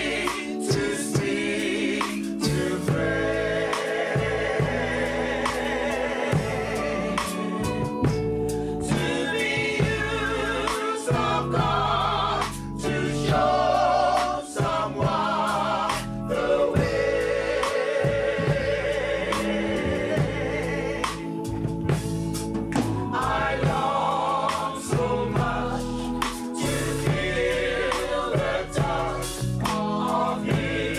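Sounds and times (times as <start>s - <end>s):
gospel choir singing: 0.0s - 30.9s
live band with bass and drums: 0.0s - 30.9s.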